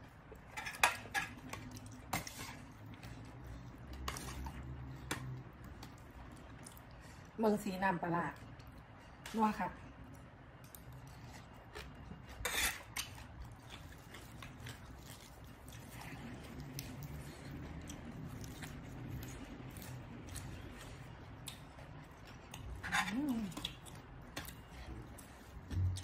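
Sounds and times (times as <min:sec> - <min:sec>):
chewing and crunching: 0:00.0 - 0:07.4, 0:09.9 - 0:26.0.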